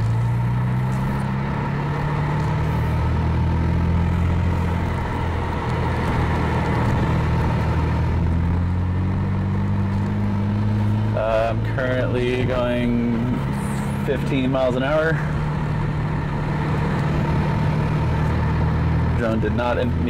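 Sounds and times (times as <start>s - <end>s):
car engine under light throttle: 0.0s - 20.0s.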